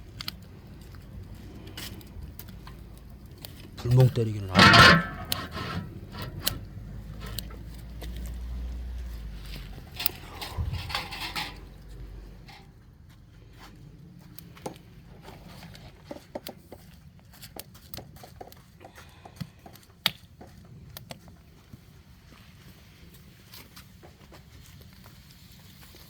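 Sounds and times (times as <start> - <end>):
rustling noise: 0.0 - 18.4, 20.7 - 26.0
firewood crackling and popping: 0.0 - 26.0.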